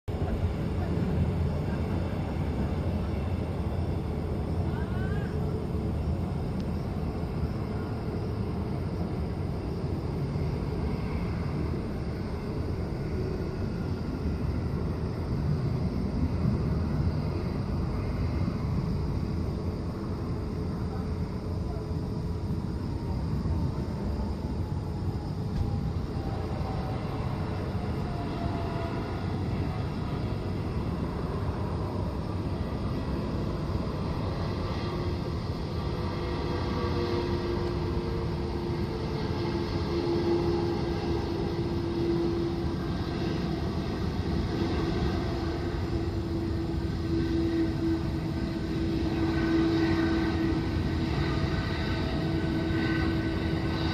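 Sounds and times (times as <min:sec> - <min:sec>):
jet engines rumbling with whine: 0:00.0 - 0:53.9.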